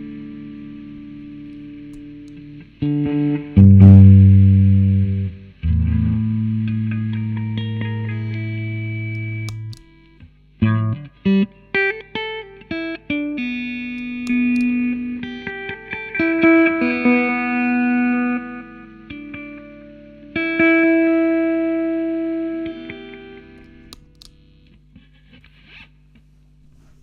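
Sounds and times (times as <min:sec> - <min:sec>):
electric guitar with effects: 0:00.0 - 0:25.9.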